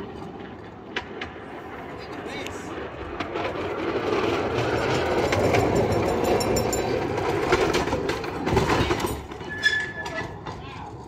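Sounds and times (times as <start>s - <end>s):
rail car wheels rumbling on track: 0.0s - 11.0s.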